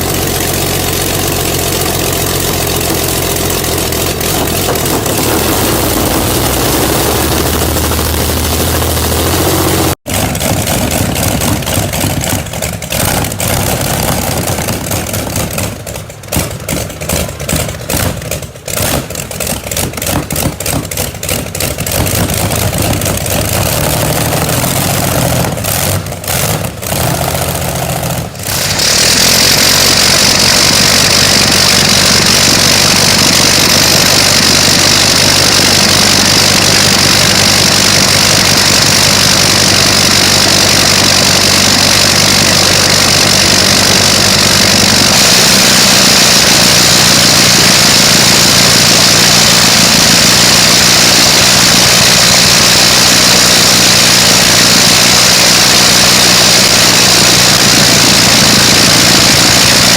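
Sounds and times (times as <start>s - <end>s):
engine running unevenly: 0.0s - 59.9s.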